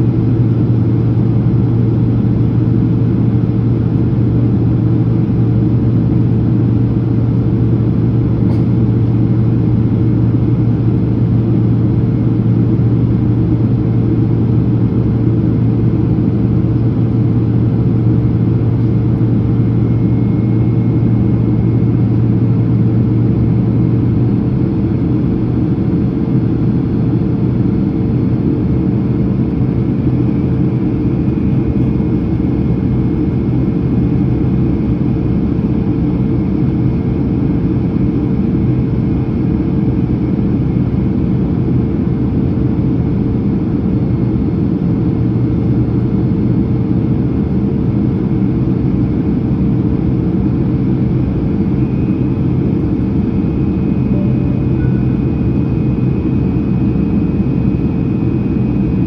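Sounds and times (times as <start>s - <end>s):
cabin airflow rumble: 0.0s - 59.0s
low engine hum: 0.0s - 59.0s.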